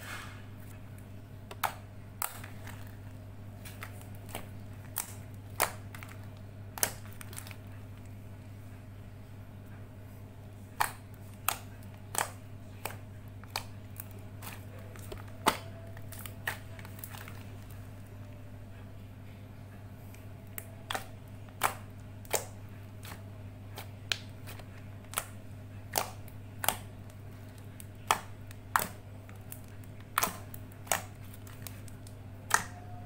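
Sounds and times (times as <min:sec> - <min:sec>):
slime kneaded by hand: 0:00.0 - 0:08.8, 0:10.1 - 0:18.5, 0:20.0 - 0:33.0
low electrical hum: 0:00.0 - 0:33.0.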